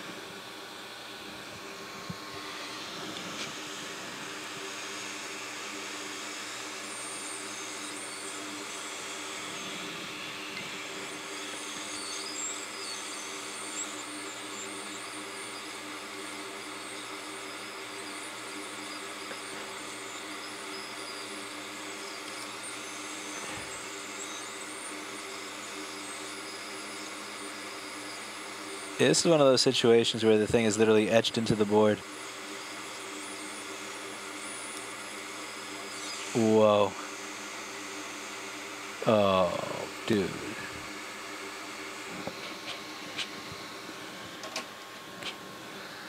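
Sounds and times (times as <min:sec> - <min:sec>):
faint fan hum: 0:00.0 - 0:46.0
hot air blower hissing: 0:00.0 - 0:46.0.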